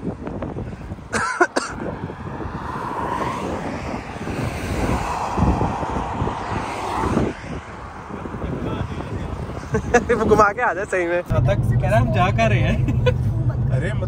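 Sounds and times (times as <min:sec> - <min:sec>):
highway traffic passing: 0:00.0 - 0:14.0.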